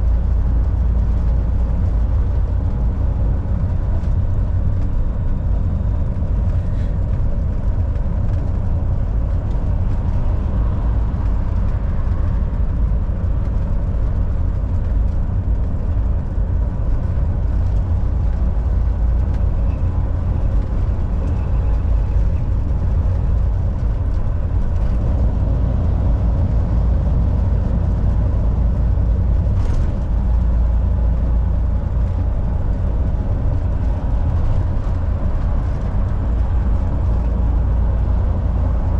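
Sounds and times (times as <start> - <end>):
truck engine drone: 0.0 - 38.9
tyre and road noise: 0.0 - 38.9.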